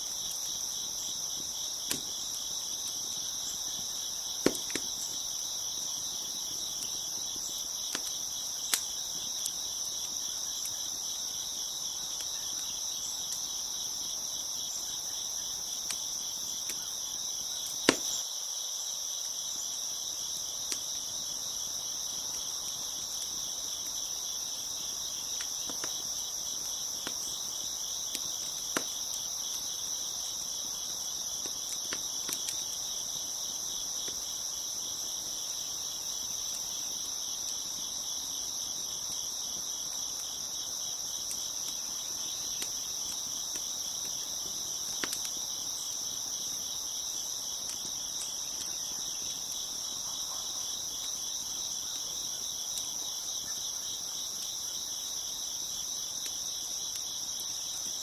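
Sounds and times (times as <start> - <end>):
crickets chirping: 0.0 - 58.0
wood fire crackling: 0.0 - 58.0.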